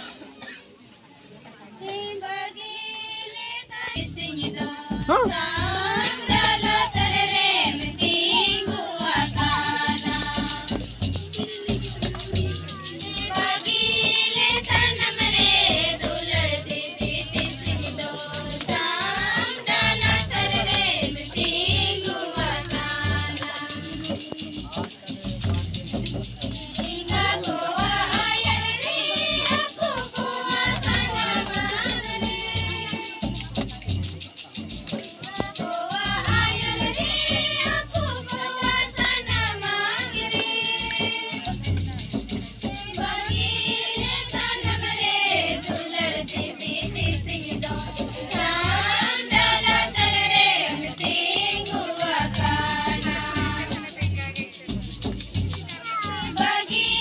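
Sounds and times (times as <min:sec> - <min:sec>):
women singing together: 0:01.8 - 0:25.2, 0:25.8 - 0:33.8, 0:34.9 - 0:54.5, 0:56.0 - 0:57.0.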